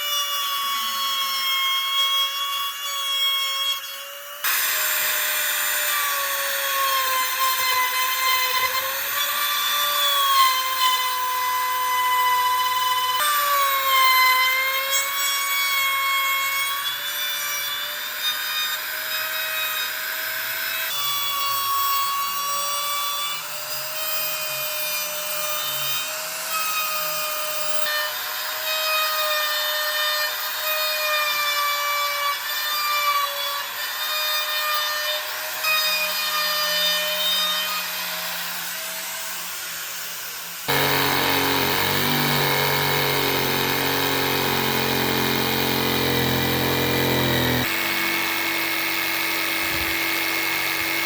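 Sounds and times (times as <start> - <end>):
power tool whining against wood: 0.0 - 32.2, 40.7 - 51.0.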